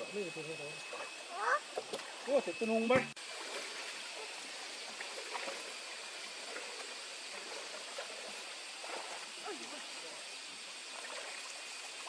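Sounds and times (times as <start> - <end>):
faint ticks and splashes: 0.0 - 12.0.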